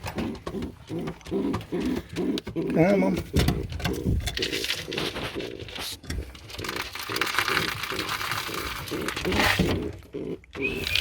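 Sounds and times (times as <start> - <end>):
pigeons cooing: 0.0 - 5.8, 6.6 - 11.0
birds rustling and shuffling: 0.0 - 11.0.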